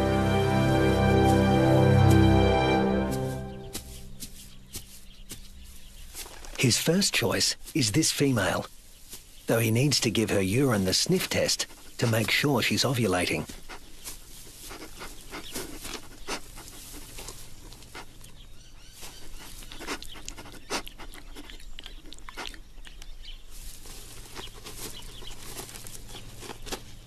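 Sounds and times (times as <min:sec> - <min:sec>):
kangaroo sniffing: 0:03.7 - 0:27.0.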